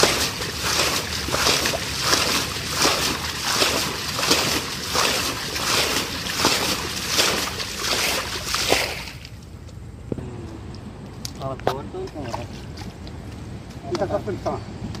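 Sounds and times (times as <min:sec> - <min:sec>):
water splashing and sloshing: 0:00.0 - 0:09.9, 0:11.0 - 0:13.8.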